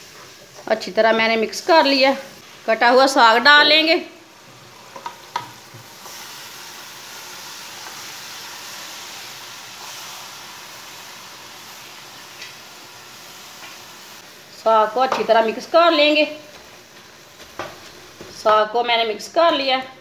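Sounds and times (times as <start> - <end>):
greens sizzling in hot oil: 0.0 - 19.8.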